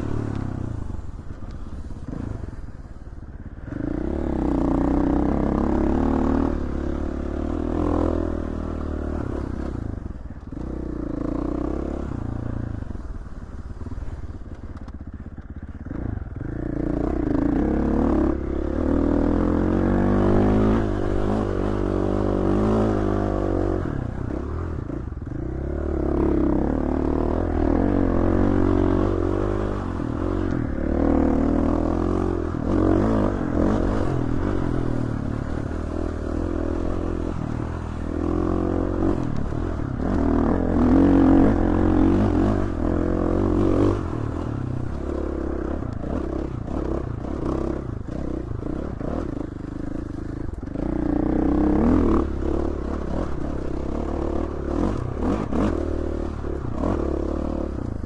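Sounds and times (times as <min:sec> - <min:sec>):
dirt bike engine revving: 0:03.6 - 0:09.8, 0:15.9 - 0:58.0.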